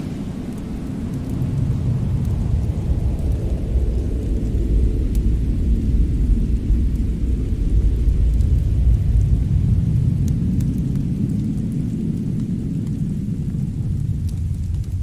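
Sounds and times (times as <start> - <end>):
fire crackles: 0.0 - 15.0
fireplace low rumble: 0.0 - 15.0.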